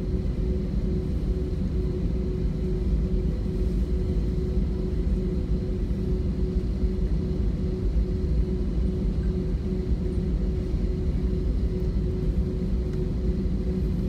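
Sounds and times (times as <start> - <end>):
jet engines rumbling in cabin: 0.0 - 14.0.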